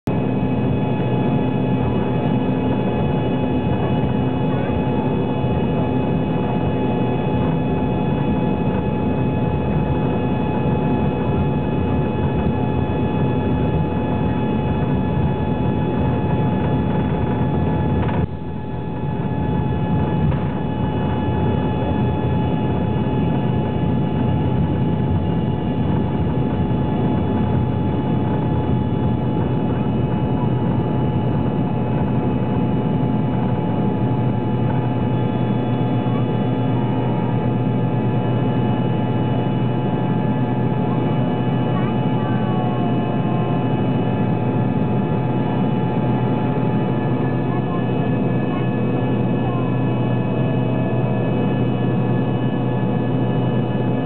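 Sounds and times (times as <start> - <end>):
jet engines hum and whine: 0.1 - 54.0.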